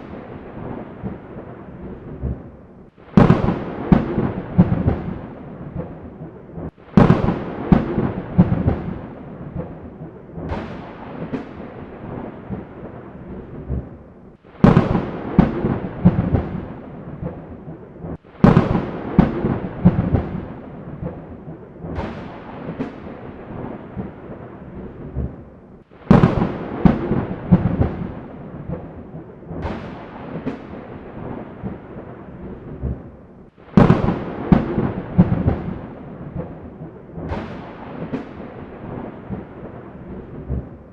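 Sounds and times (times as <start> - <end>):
rolling thunder rumble: 0.0 - 40.9
thunder cracks: 0.0 - 40.9.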